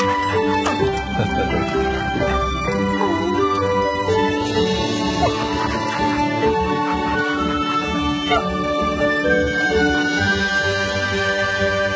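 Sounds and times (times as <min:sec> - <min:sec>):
instrumental background music: 0:00.0 - 0:11.9.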